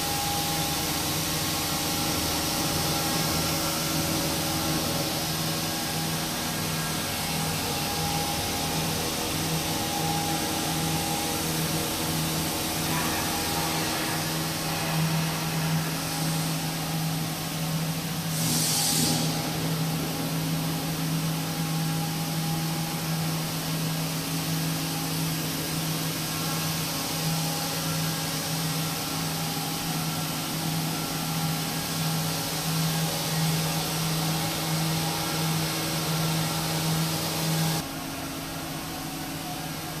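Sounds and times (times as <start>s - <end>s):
hiss of rotating cylinder: 0.0s - 37.8s.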